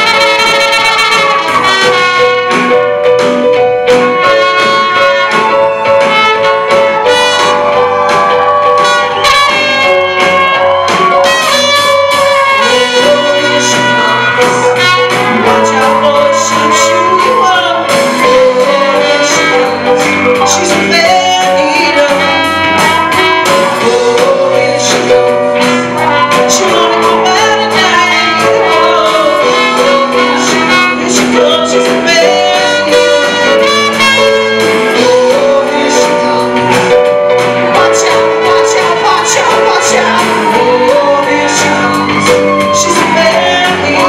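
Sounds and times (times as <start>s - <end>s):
drums: 0.0s - 44.0s
electric guitars: 0.0s - 44.0s
person singing: 0.0s - 44.0s.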